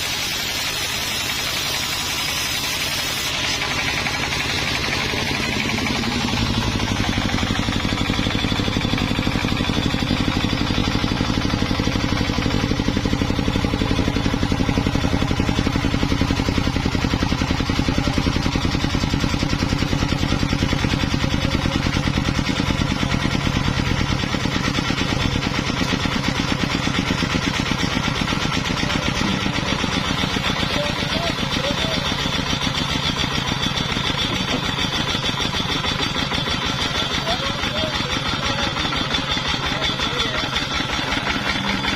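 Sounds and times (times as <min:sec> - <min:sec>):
sawmill engine chugging: 0:00.0 - 0:41.9.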